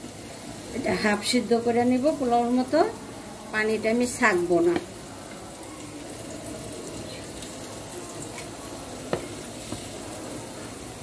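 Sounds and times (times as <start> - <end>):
watery hiss in a pot: 0.0 - 11.0.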